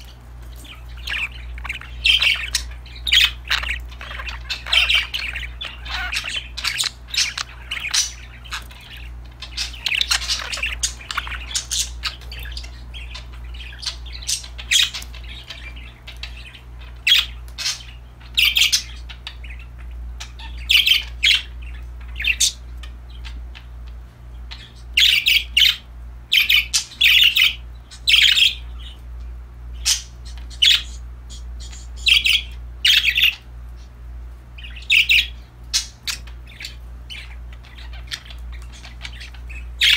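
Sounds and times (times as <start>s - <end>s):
budgerigars chirping and squawking: 0.0s - 39.9s
low steady hum: 0.0s - 39.9s.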